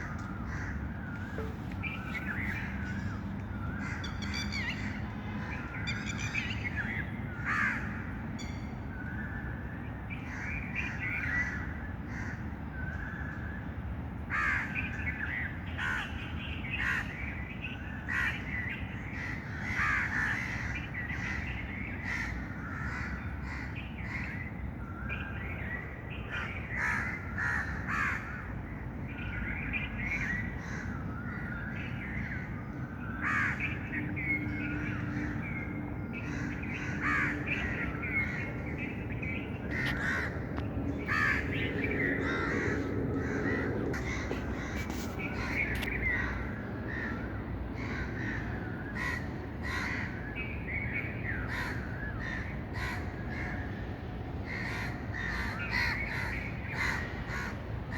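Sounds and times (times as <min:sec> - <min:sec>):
birds calling: 0:00.0 - 0:09.4, 0:14.3 - 0:57.9.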